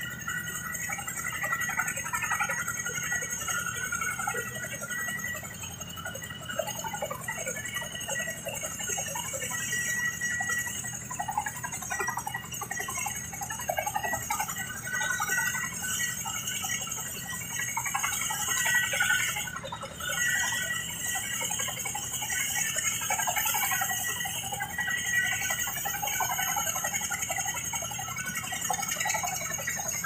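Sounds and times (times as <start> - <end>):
helicopter rotors and turbines: 0.0 - 30.0.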